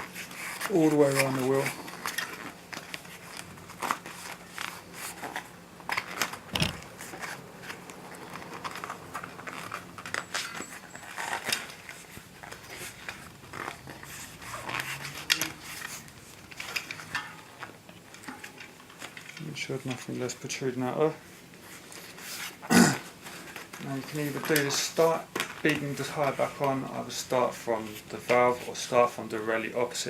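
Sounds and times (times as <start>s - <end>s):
rubber rustling and clicking on tyre: 0.0s - 30.0s.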